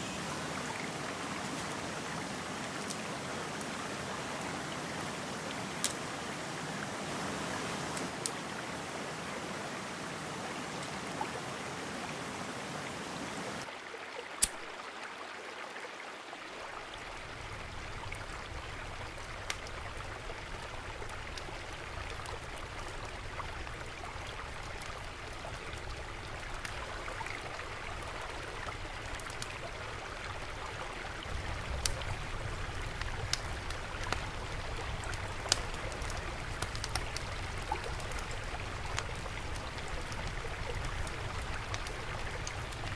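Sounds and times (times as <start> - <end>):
water dripping: 0.0 - 8.8, 14.4 - 14.8, 16.8 - 42.9
stream water flowing: 0.0 - 42.9.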